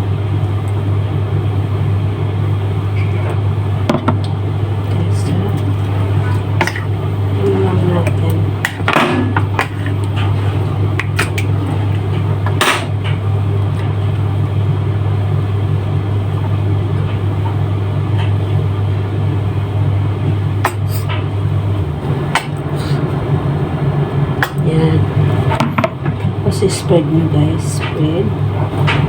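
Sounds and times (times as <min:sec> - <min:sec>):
appliance motor humming: 0:00.0 - 0:29.0.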